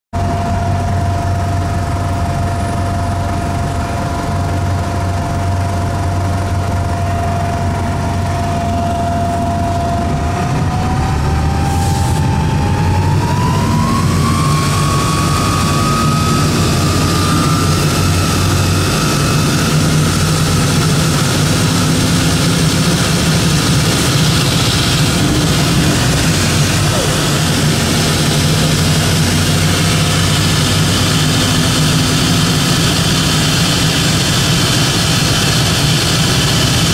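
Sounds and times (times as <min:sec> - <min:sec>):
diesel engine drone: 0:00.1 - 0:36.9
loud whine: 0:00.2 - 0:36.9.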